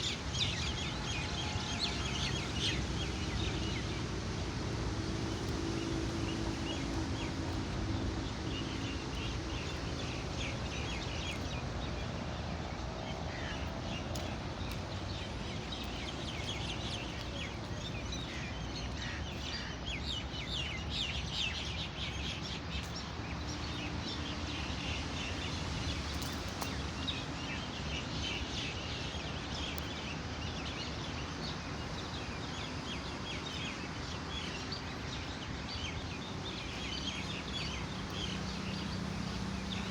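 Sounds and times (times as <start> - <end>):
steady background noise: 0.0 - 39.9.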